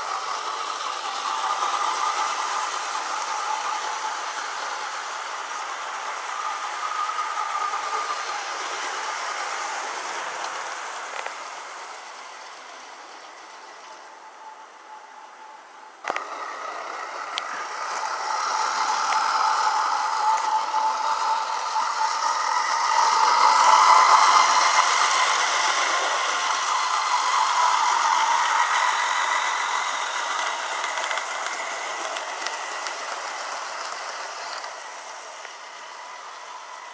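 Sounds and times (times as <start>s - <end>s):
model train rattling on track: 0.0s - 36.9s.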